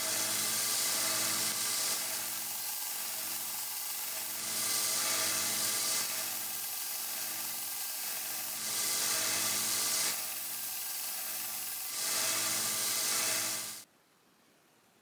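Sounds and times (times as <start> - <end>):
belt sander motor hum: 0.0 - 13.8
rasping hiss of sanding brass: 0.0 - 13.8.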